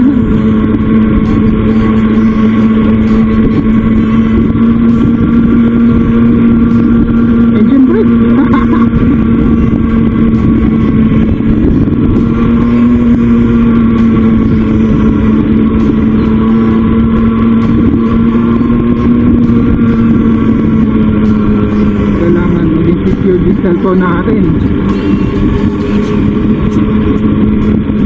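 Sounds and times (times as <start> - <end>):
small motorbike engine: 0.0 - 28.0.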